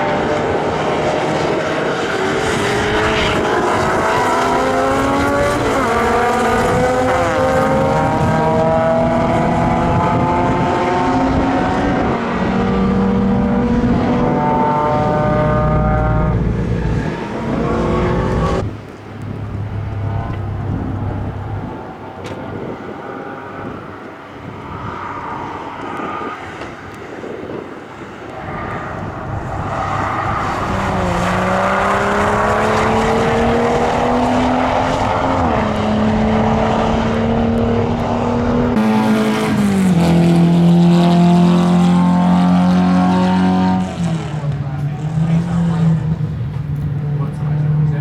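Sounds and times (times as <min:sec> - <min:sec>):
race car engine: 0:00.0 - 0:48.0.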